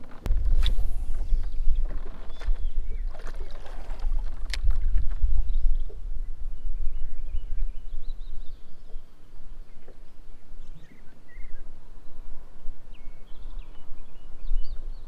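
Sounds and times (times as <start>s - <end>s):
songbirds chirping: 0.0s - 4.5s, 5.2s - 15.0s.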